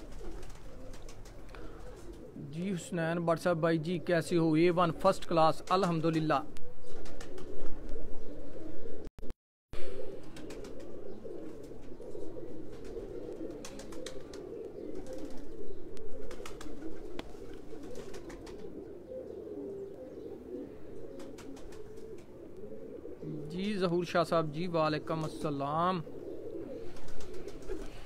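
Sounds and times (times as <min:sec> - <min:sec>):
pigeons cooing: 0:00.0 - 0:09.1, 0:09.8 - 0:28.0.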